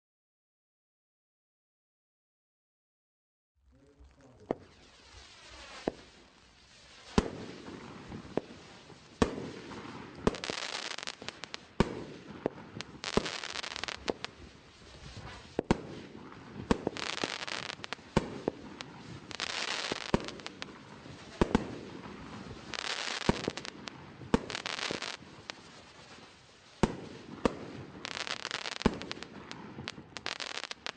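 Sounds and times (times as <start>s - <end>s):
firework crackling and hissing: 3.6s - 30.9s
firework bangs: 3.9s - 30.9s.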